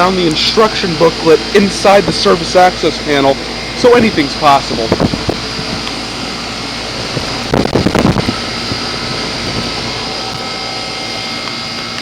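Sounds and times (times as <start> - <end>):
heat pump whirring and humming: 0.0 - 12.0.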